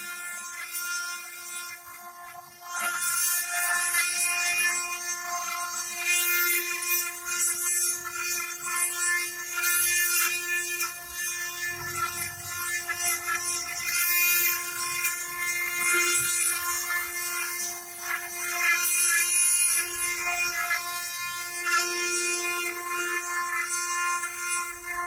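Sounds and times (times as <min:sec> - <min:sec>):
machine spindle whine: 0:00.0 - 0:25.0
bit grinding stone hiss: 0:02.8 - 0:23.3.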